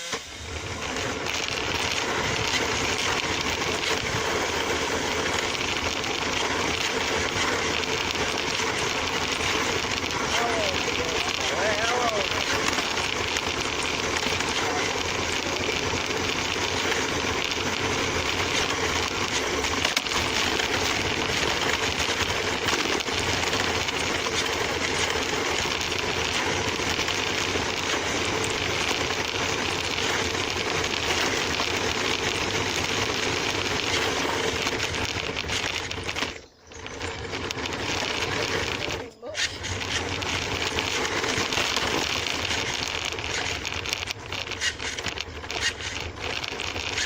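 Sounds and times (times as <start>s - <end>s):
toy car electric motor running: 0.0s - 47.0s
wheels rattling along ground: 0.0s - 47.0s.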